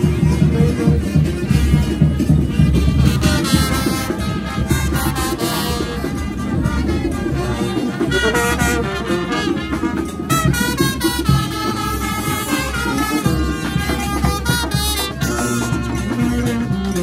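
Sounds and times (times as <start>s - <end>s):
drums: 0.0s - 17.0s
sousaphone bass line: 0.0s - 17.0s
trumpets and trombones: 0.0s - 17.0s.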